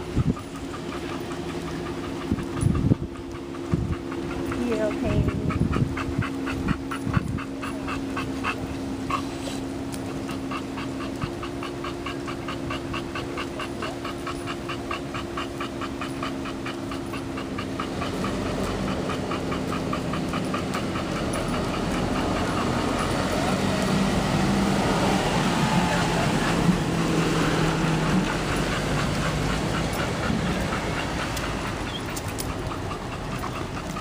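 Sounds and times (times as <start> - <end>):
dog panting: 0.0 - 34.0.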